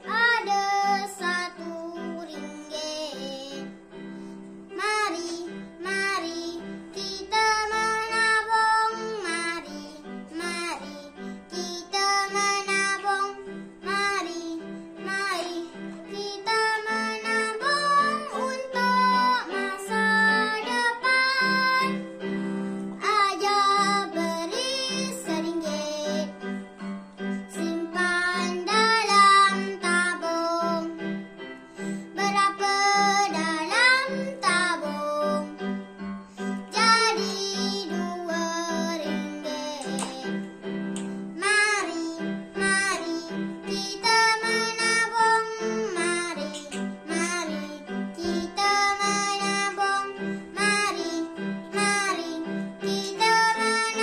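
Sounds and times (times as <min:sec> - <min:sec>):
boy singing: 0:00.0 - 0:03.7, 0:04.7 - 0:22.0, 0:23.0 - 0:26.4, 0:27.5 - 0:31.0, 0:32.2 - 0:35.6, 0:36.7 - 0:40.4, 0:41.4 - 0:54.0.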